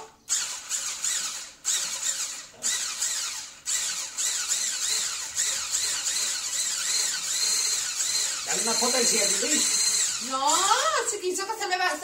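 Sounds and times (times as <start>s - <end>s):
electric hand blender whirring: 0.0s - 11.8s.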